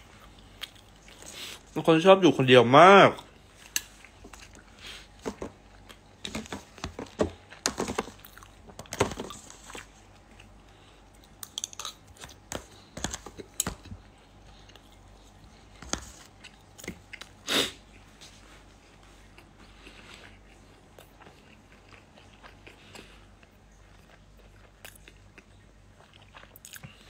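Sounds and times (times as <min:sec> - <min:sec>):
crunchy chewing: 0:03.2 - 0:18.1, 0:18.8 - 0:27.0.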